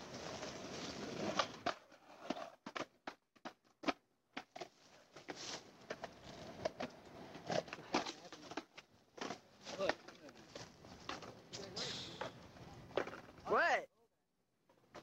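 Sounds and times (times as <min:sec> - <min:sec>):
skateboard clack: 0:00.0 - 0:13.4
skateboard wheels rolling on asphalt: 0:00.0 - 0:13.5.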